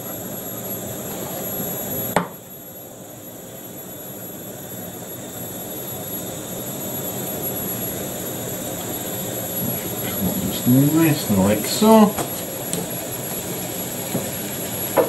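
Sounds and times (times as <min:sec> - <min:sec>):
food frying with rushing noise: 0:00.0 - 0:15.0.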